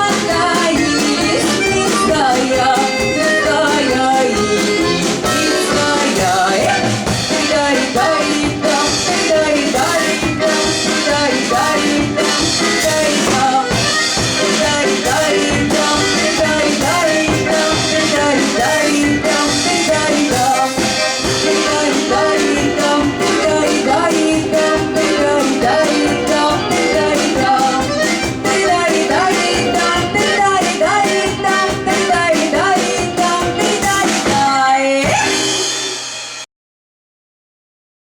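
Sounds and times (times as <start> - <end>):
lively folk ensemble music: 0.0 - 36.1.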